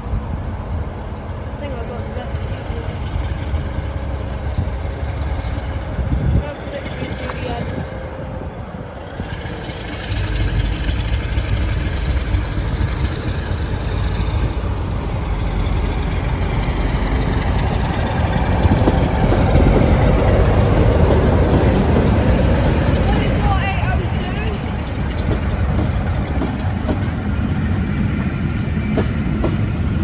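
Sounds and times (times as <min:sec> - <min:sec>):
diesel locomotive engine rumble: 0:00.0 - 0:30.0
train running noise: 0:00.0 - 0:30.0.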